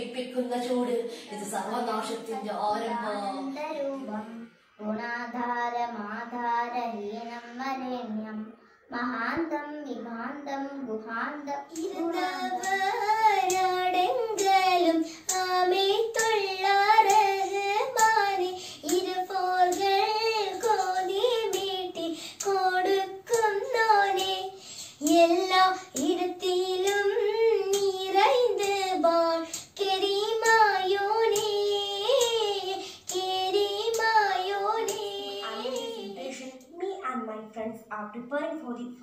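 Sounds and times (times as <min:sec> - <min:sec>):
girl singing: 0:01.2 - 0:36.8.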